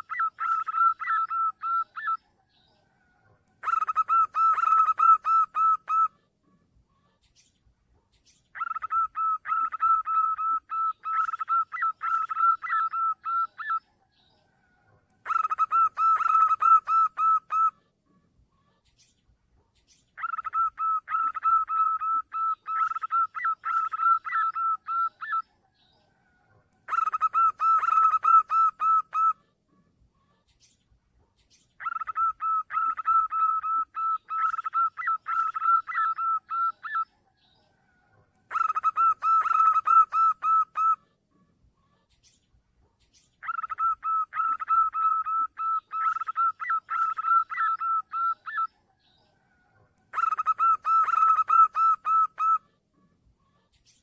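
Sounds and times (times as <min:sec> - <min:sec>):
dove staccato cooing: 0:00.0 - 0:02.2, 0:03.0 - 0:07.5, 0:08.2 - 0:13.8, 0:14.6 - 0:19.1, 0:19.8 - 0:30.7, 0:31.4 - 0:42.4, 0:43.0 - 0:54.0.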